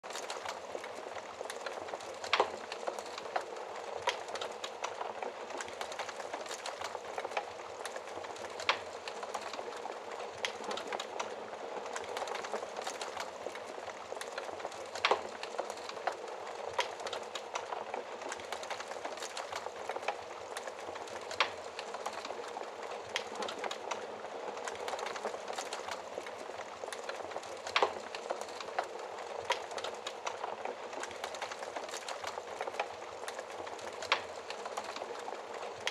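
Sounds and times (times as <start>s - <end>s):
wood fire crackling: 0.0s - 35.9s
fire popping: 0.1s - 35.9s.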